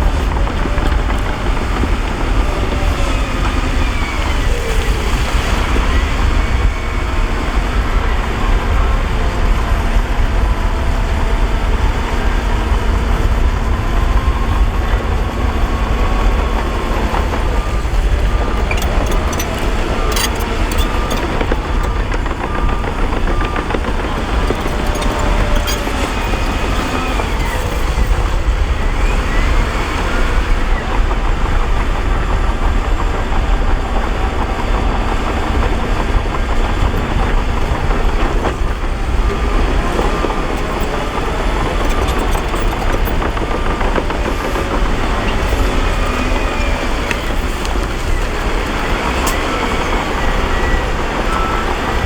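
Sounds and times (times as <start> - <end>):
heavy diesel machinery rumbling: 0.0 - 52.0.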